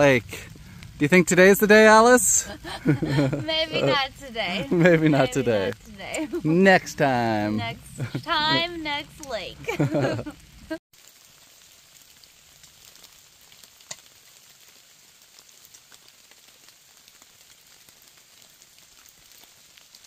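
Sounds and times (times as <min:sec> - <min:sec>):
light rain pattering: 0:00.0 - 0:20.0
raindrops ticking: 0:00.0 - 0:20.0.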